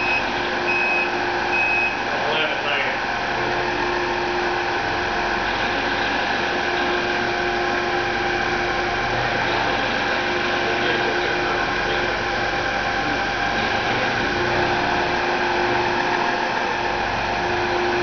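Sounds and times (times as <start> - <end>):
fabric winding machine whirring: 0.0 - 18.0.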